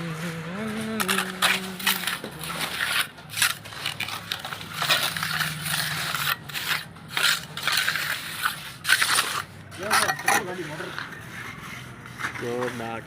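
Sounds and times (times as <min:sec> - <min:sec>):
gritty scraping and crunching: 0:00.0 - 0:13.0.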